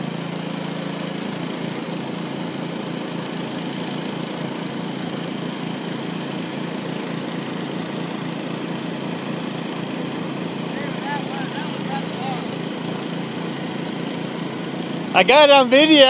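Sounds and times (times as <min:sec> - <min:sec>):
small gasoline engine running: 0:00.0 - 0:16.0.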